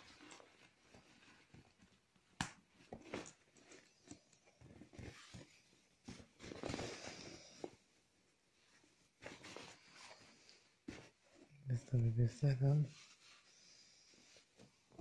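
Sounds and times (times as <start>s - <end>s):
fabric rustling: 0.0s - 15.0s.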